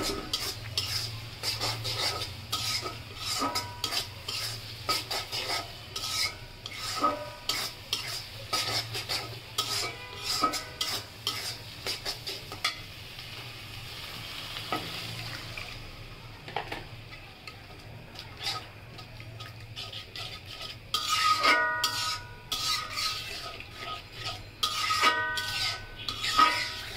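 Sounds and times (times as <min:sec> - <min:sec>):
metal spatula scraping a wok: 0:00.0 - 0:13.2, 0:18.2 - 0:26.9
frying sizzle: 0:00.0 - 0:26.9.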